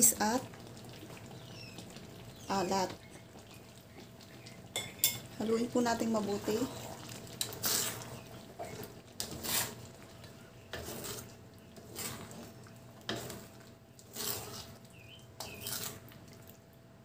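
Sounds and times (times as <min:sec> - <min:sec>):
thick stew being stirred: 0:00.0 - 0:16.8
wooden spatula scraping a wok: 0:02.5 - 0:16.3.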